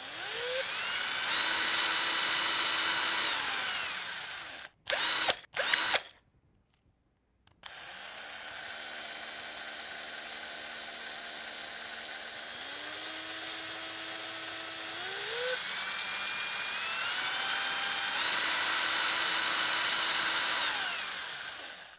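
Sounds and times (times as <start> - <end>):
electric drill whining: 0.0 - 6.1, 7.6 - 21.9.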